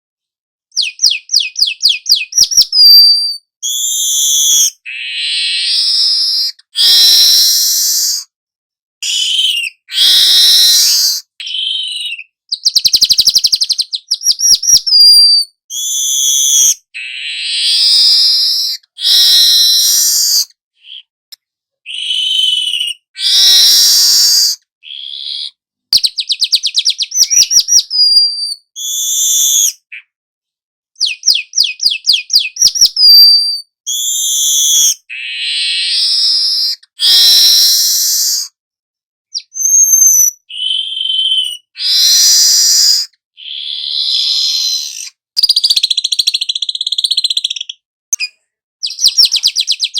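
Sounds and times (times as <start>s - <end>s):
bird singing wheezy buzzing phrases: 0.7s - 8.3s, 9.0s - 21.1s, 21.9s - 30.2s, 31.0s - 38.5s, 39.3s - 47.8s.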